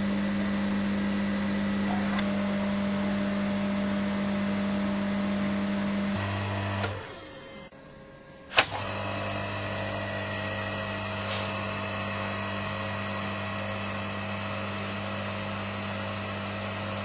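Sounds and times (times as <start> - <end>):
electric motor humming: 0.0 - 7.7, 8.6 - 17.0.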